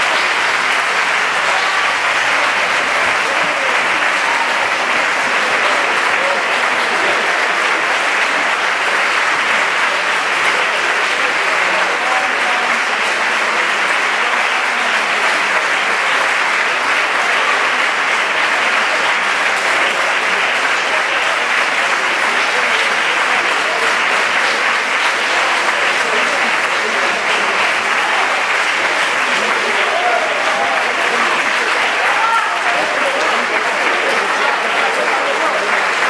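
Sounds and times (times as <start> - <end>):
crowd applause: 0.0 - 36.0.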